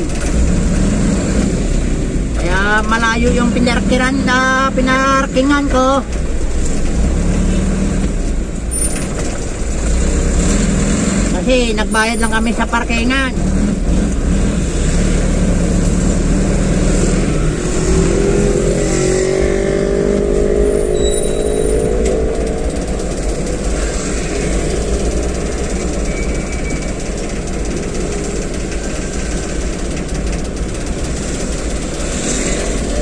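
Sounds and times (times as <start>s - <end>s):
cargo truck passing close: 0.0s - 33.0s
vehicle accelerating: 0.0s - 33.0s
vehicle engines rumbling: 0.0s - 33.0s.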